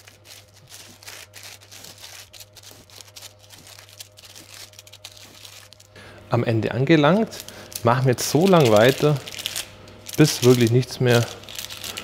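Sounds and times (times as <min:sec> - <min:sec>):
baking paper crinkling: 0:00.0 - 0:06.0, 0:06.9 - 0:12.0
low steady hum: 0:00.0 - 0:12.0.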